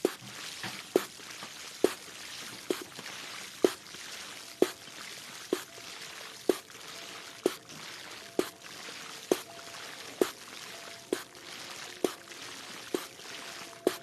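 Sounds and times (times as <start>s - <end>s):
trickling running water: 0.0s - 14.0s
water dripping into water: 0.0s - 14.0s.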